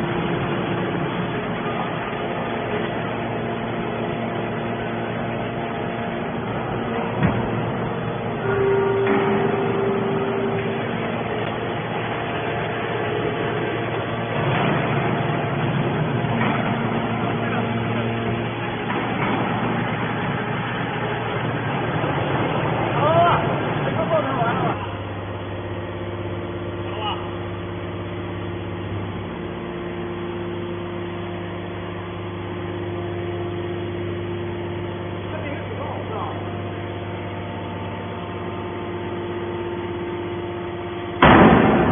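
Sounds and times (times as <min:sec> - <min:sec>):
hydraulic baler motor running: 0:00.0 - 0:41.9.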